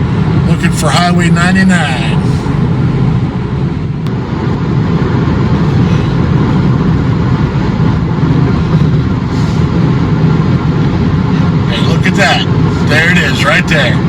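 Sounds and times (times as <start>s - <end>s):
car engine and tyre road noise: 0.0s - 14.0s.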